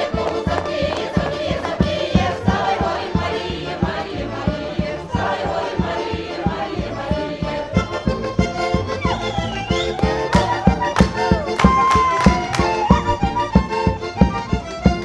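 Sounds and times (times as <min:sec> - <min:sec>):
voices singing along: 0:00.0 - 0:13.9
folk dance music with accordion: 0:00.0 - 0:15.0.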